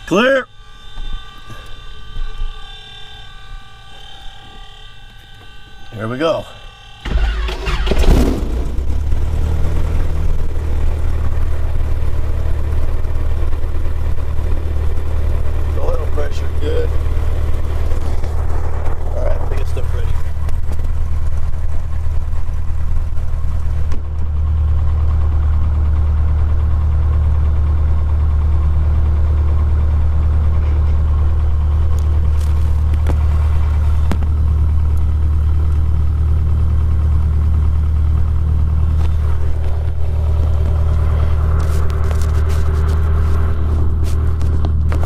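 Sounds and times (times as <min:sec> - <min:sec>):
aircraft engine idling: 0:00.0 - 0:45.0.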